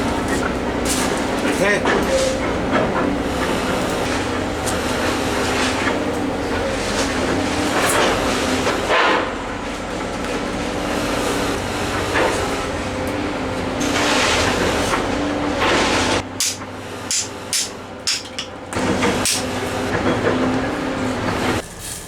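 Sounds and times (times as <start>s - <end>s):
fire burning: 0.0s - 22.0s.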